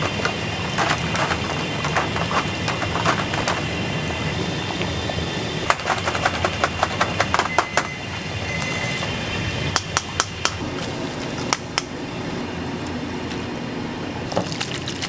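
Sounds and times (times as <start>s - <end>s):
noodle boiler kitchen hum: 0.0s - 15.0s.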